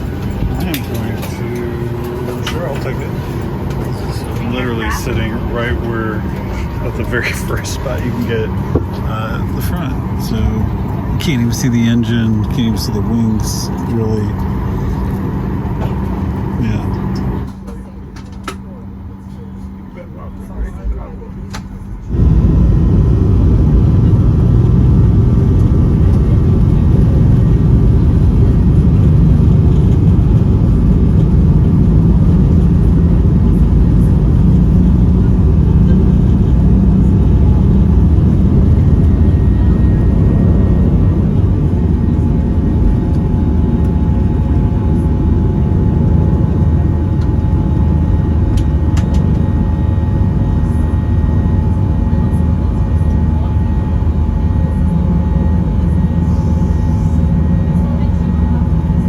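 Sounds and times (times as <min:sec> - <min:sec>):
faint steady whine: 0:00.0 - 0:59.0
jet engine rumble and airflow: 0:00.0 - 0:59.0.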